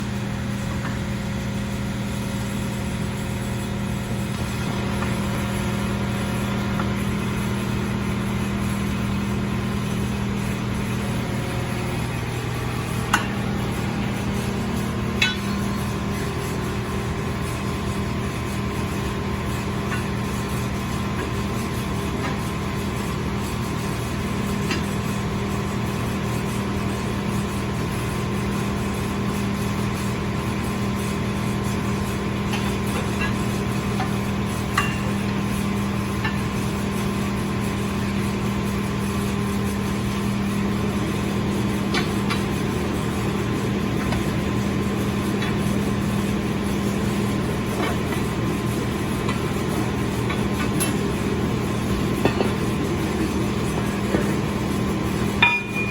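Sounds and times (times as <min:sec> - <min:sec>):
loader engine running: 0:00.0 - 0:55.9.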